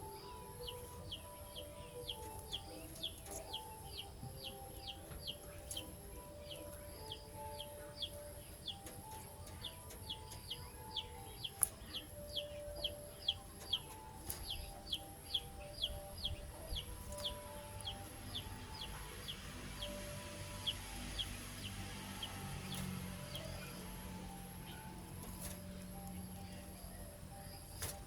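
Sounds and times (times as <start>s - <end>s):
bird chirping: 0.0s - 28.0s
soft background music: 0.0s - 28.0s.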